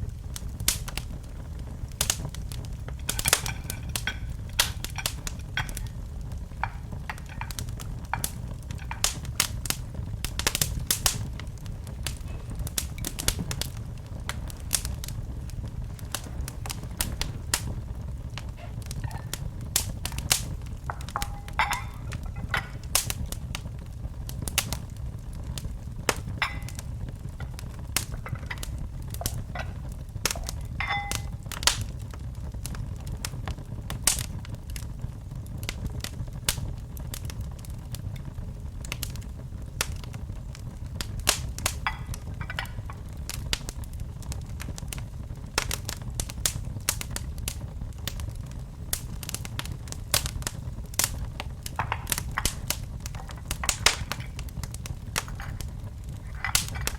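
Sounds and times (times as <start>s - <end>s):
fire rumbling: 0.0s - 56.9s
logs crackling and popping: 0.0s - 56.9s.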